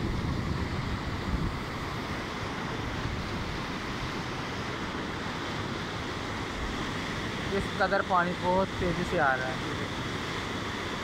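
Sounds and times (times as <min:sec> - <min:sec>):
water rushing over a drop: 0:00.0 - 0:11.0.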